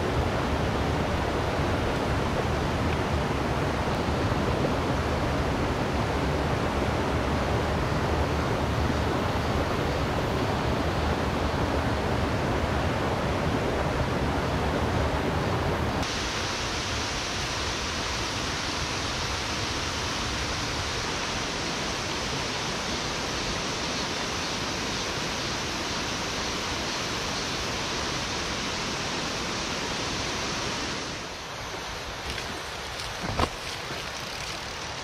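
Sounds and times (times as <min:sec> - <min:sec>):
mountain stream rushing: 0:00.0 - 0:35.0.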